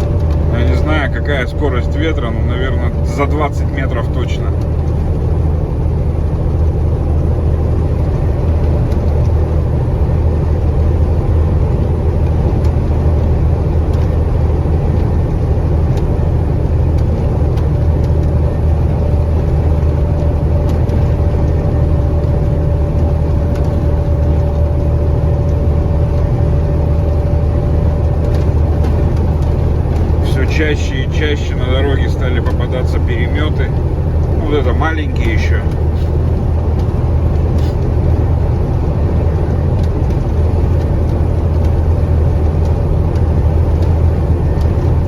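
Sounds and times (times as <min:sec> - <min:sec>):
truck diesel engine drone: 0:00.0 - 0:45.0.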